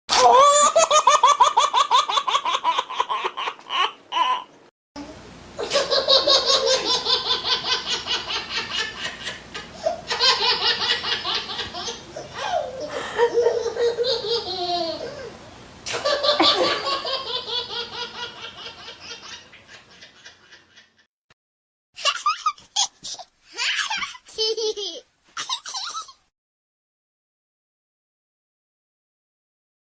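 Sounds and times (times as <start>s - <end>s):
baby laughing: 0.1s - 4.5s, 5.6s - 21.0s, 22.0s - 26.2s.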